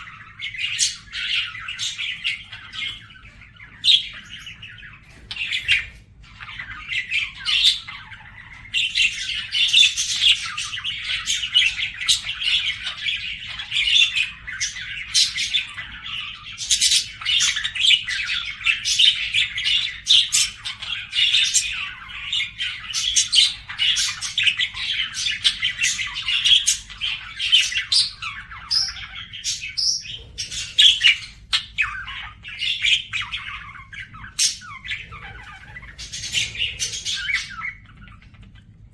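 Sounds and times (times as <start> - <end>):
budgerigar warbling: 0.0 - 38.7.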